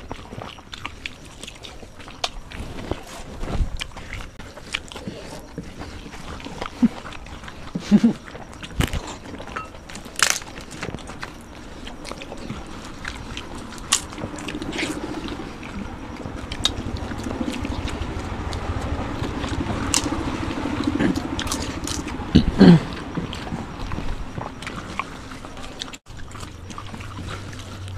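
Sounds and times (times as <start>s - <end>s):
chewing: 0.0s - 27.9s
crunching fried papad: 0.0s - 27.9s
low steady hum: 0.0s - 27.9s.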